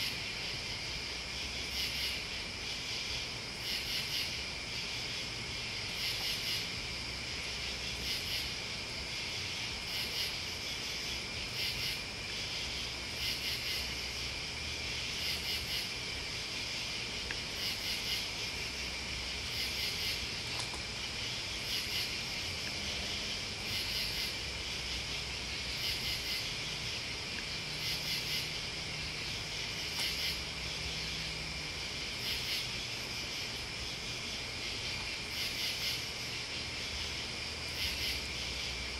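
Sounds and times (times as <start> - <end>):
crickets chirring: 0.0 - 38.9
louder pulsing insect call: 0.0 - 38.9.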